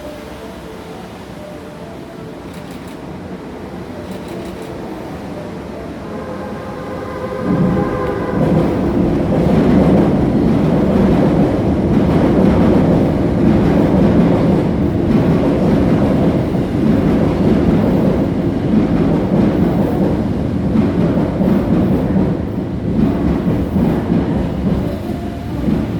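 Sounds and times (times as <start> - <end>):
electric train rumbling into station: 0.0 - 25.9.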